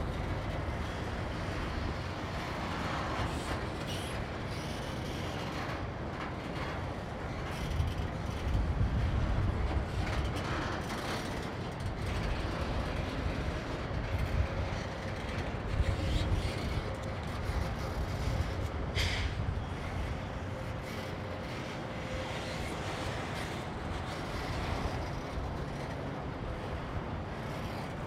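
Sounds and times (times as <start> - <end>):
freight train rumbling: 0.0 - 28.0
railcars clanking: 0.0 - 28.0.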